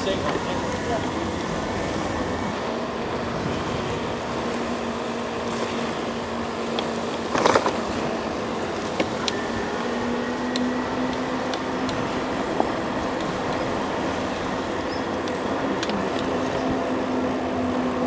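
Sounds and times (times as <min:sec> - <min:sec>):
wind and tyre rush: 0:00.0 - 0:18.0.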